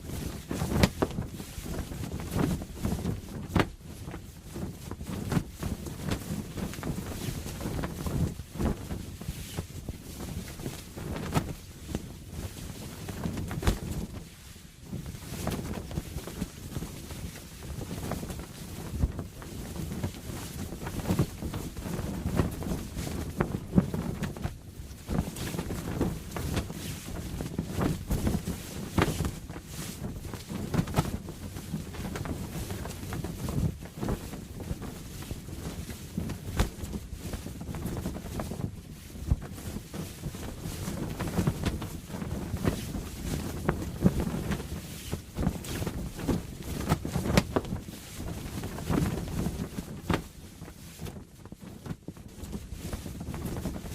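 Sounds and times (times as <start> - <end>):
low wind noise: 0.0 - 53.9
sail flapping and snapping: 0.0 - 53.9.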